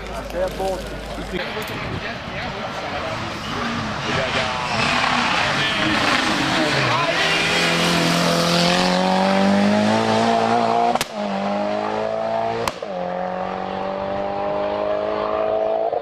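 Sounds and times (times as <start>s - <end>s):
race car engine accelerating: 3.0s - 16.0s.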